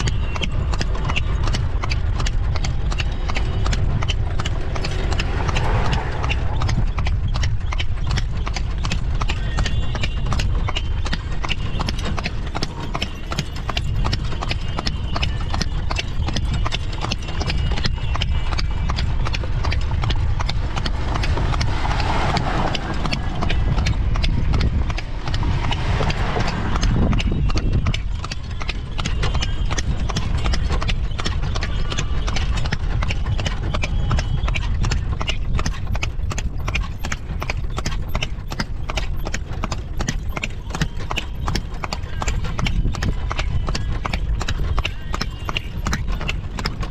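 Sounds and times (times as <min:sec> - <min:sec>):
continuous low rumble: 0:00.0 - 0:46.9
horse hooves clip-clopping: 0:00.0 - 0:46.9.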